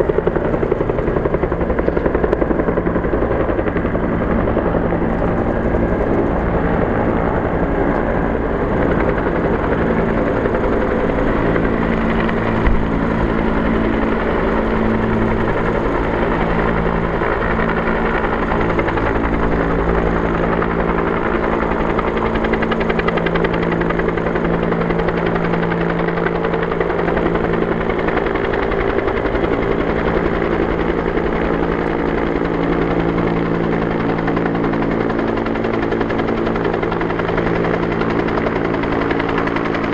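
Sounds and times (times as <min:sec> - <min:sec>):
helicopter engine tone: 0:00.0 - 0:39.9
helicopter rotor beating: 0:00.0 - 0:39.9.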